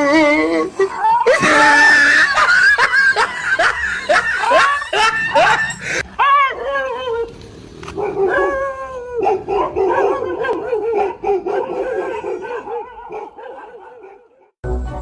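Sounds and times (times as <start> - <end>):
dog barking and howling: 0.0 - 14.5.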